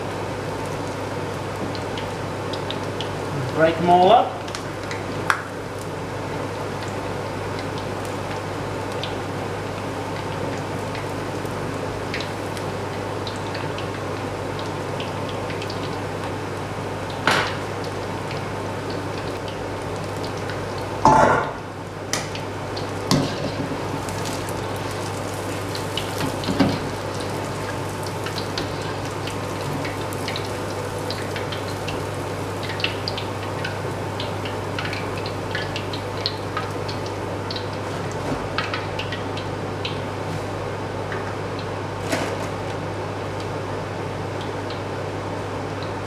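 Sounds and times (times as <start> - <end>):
deep-frying sizzle in oil: 0.0 - 46.0.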